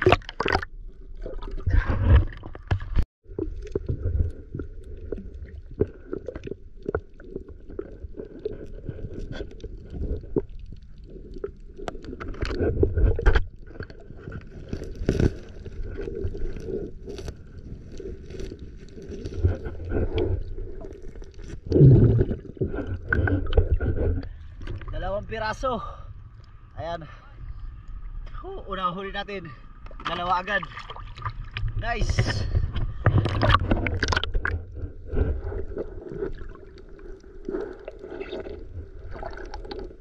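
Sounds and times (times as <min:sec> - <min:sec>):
muffled underwater rumble: 0:00.0 - 0:30.1, 0:30.7 - 0:40.0.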